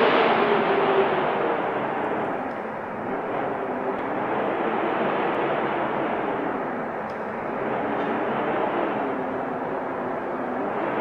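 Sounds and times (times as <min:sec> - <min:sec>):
snowstorm wind rushing: 0:00.0 - 0:11.0.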